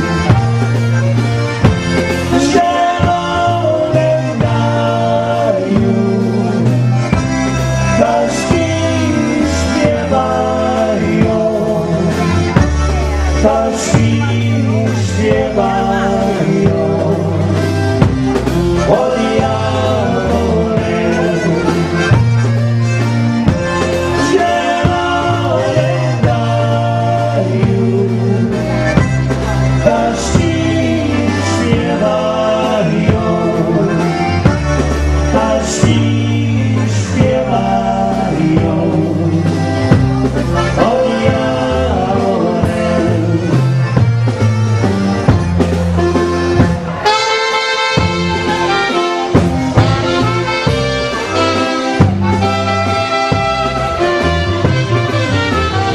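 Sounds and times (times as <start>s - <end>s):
dance band playing a waltz: 0.0s - 55.9s.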